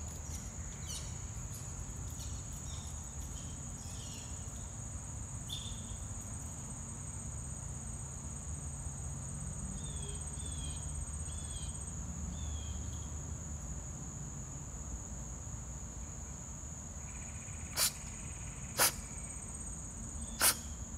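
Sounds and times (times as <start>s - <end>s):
high-pitched insect chorus: 0.0s - 20.9s.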